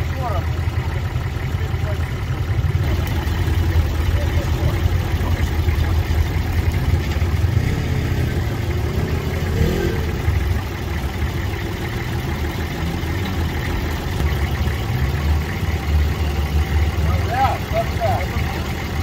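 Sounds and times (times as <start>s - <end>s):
engine running with deep rumble: 0.0s - 19.0s.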